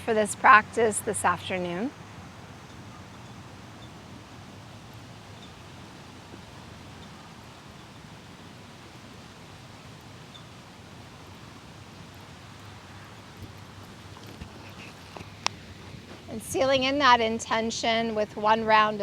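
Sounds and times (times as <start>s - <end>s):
leaves rustling: 0.0s - 17.5s
wind: 0.0s - 19.0s.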